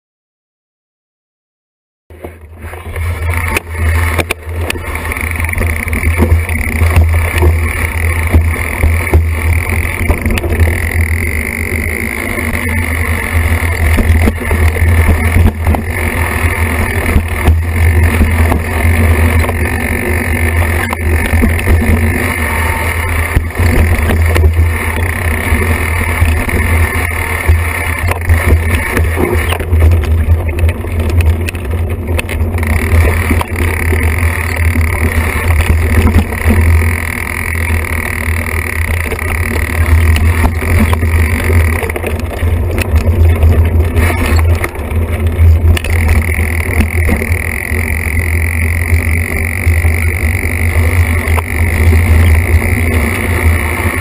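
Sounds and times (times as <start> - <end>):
wind rumbling on microphone: 2.1 - 54.0
bike rattling and knocking: 2.2 - 54.0.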